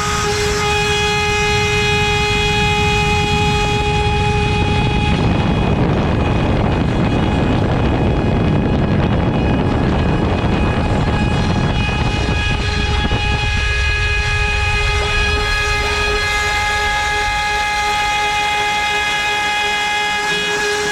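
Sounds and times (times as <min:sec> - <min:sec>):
router spindle high whine: 0:00.0 - 0:20.9.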